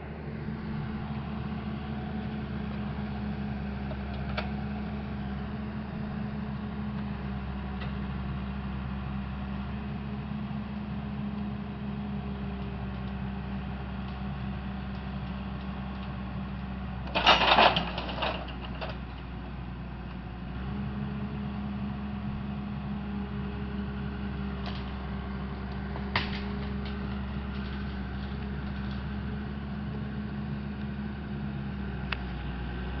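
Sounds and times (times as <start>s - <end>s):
tracked machine engine running: 0.0s - 33.0s.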